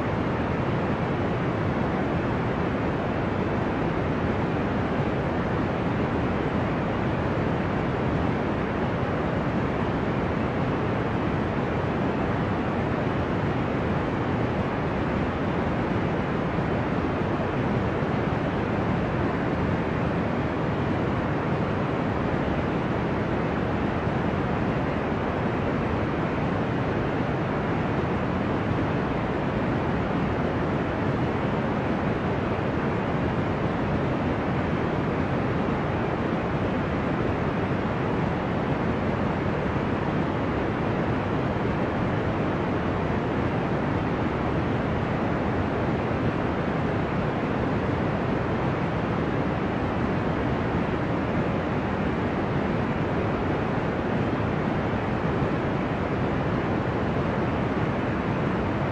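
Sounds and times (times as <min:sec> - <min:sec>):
deep white noise: 0:00.0 - 0:58.9.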